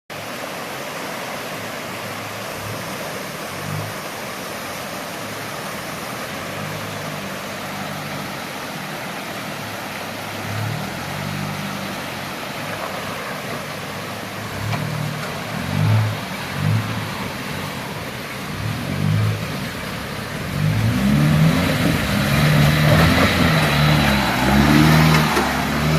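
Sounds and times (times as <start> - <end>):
diesel engine running: 2.1 - 25.9.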